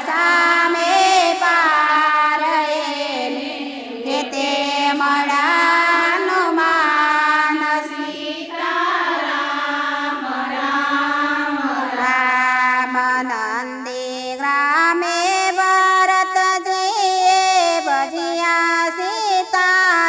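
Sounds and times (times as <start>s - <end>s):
women singing together: 0.0s - 20.0s.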